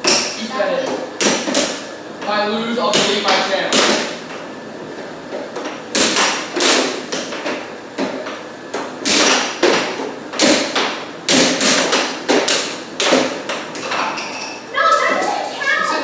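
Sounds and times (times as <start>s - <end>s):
air hockey puck clacking: 0.0s - 4.5s, 5.3s - 15.4s.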